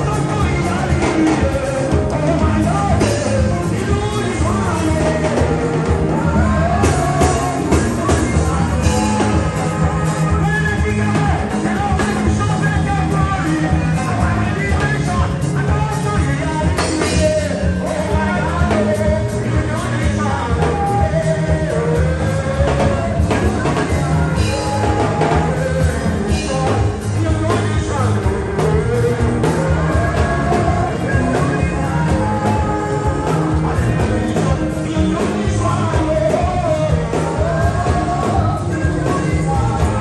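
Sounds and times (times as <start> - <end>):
drum kit beat: 0.0 - 40.0
electric bass guitar: 0.0 - 40.0.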